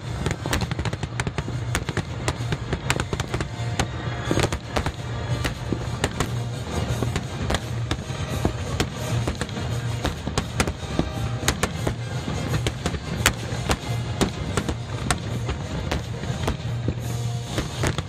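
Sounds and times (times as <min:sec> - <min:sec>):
fireworks bursting: 0:00.0 - 0:18.0
music: 0:00.0 - 0:18.0.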